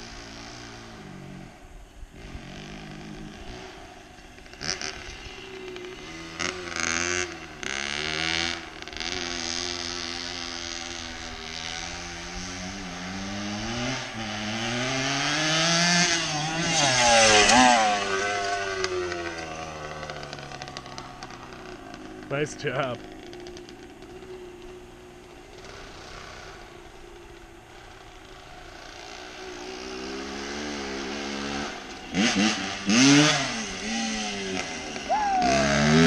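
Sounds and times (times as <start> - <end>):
dirt bike engine accelerating: 0.0 - 36.0.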